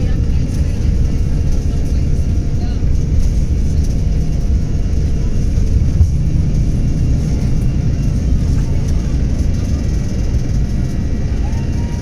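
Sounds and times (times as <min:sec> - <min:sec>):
high engine tones: 0:00.0 - 0:12.0
jet engines low rumble: 0:00.0 - 0:12.0.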